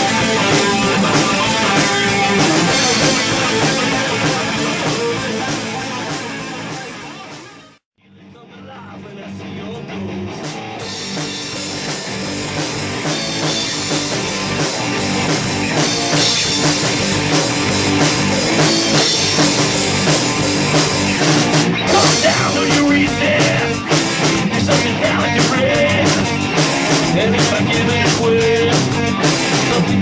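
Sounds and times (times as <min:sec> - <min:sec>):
rock band playing instrumental: 0:00.0 - 0:07.8, 0:09.8 - 0:30.0.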